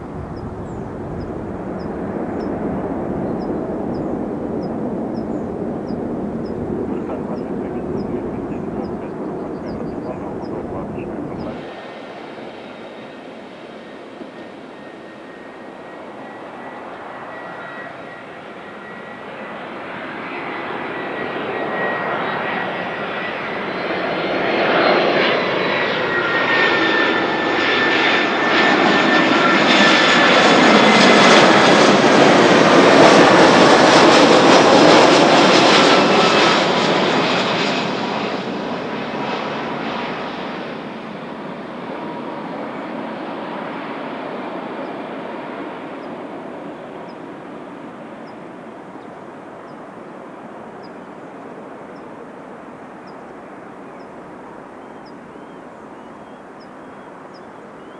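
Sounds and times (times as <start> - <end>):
high jet fan whine: 0.0 - 57.9
jet airliner passing: 0.0 - 57.9.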